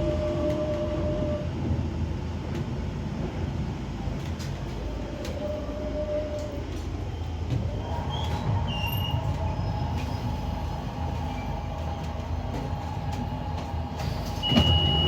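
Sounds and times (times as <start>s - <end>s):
underground train rumbling: 0.0s - 15.0s.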